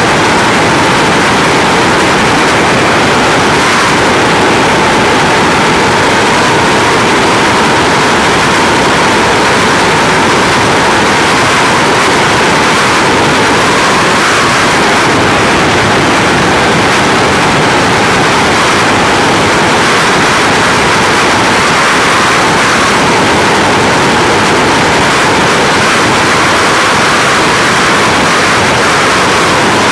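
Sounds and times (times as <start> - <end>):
freefall wind rushing: 0.0 - 29.9.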